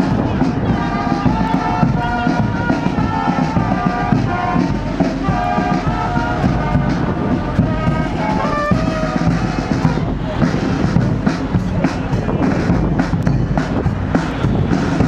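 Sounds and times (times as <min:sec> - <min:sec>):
steady drumming: 0:00.0 - 0:15.0.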